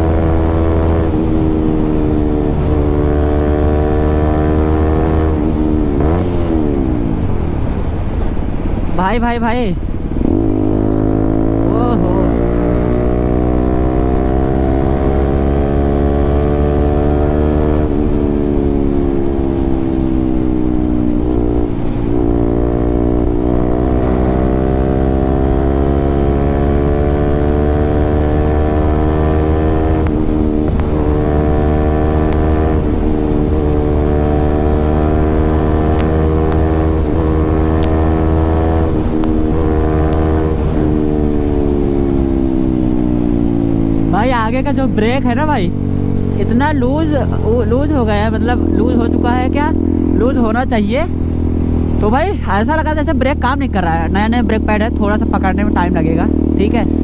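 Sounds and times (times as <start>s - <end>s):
motorcycle engine running loudly: 0.0s - 8.8s, 9.8s - 57.0s.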